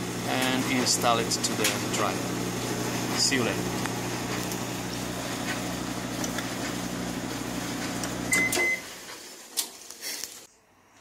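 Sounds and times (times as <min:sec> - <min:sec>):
gas dryer humming: 0:00.0 - 0:10.5.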